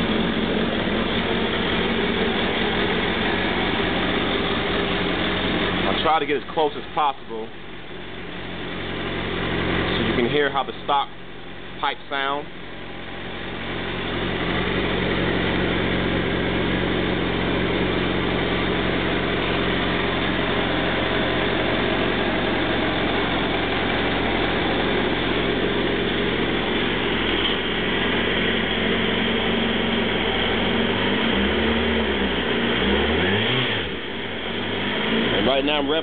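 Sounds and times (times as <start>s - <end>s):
motorcycle engine idling: 0.0s - 32.7s.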